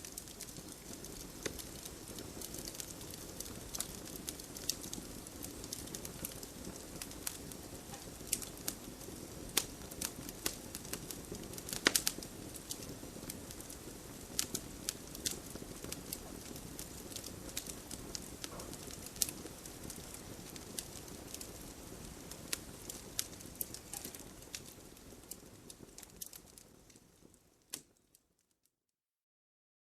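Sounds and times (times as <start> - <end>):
wood fire crackling: 0.0 - 28.5.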